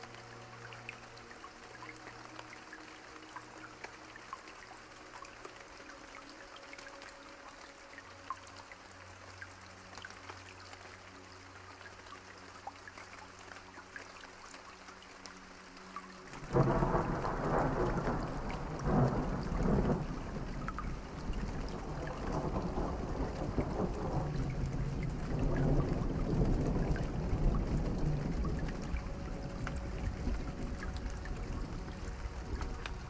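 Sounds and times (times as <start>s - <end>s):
soft music with held notes: 0.0s - 33.0s.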